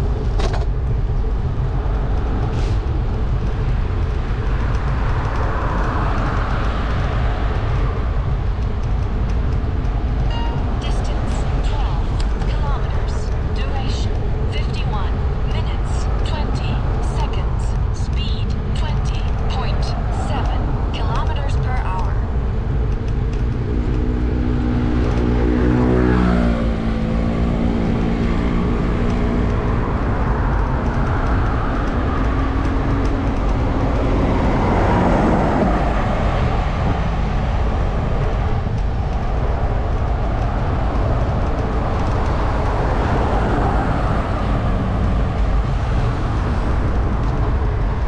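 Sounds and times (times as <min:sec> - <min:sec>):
vehicle engine: 0:00.0 - 0:48.0
wind and tyre rumble: 0:00.0 - 0:48.0.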